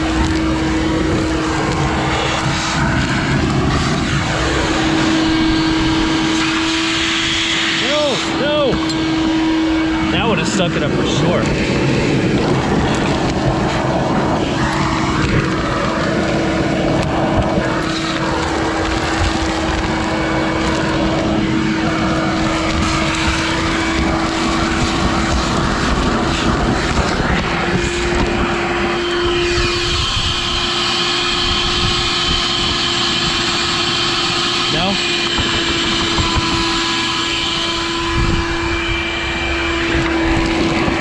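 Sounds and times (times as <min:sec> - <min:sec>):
air rushing through hose: 0:00.0 - 0:41.0
vacuum cleaner running: 0:00.0 - 0:41.0.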